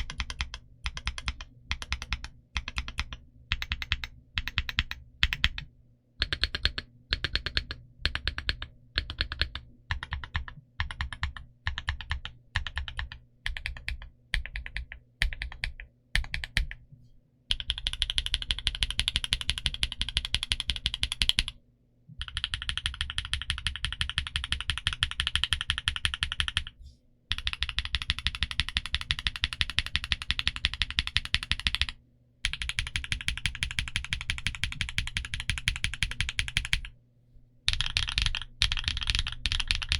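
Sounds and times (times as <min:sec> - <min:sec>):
typing on mechanical keyboard: 0:00.0 - 0:16.8, 0:17.5 - 0:21.5, 0:22.2 - 0:26.7, 0:27.3 - 0:36.9, 0:37.7 - 0:39.9.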